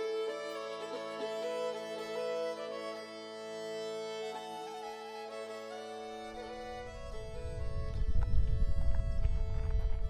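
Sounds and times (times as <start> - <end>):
music with long held notes: 0.0 - 10.0.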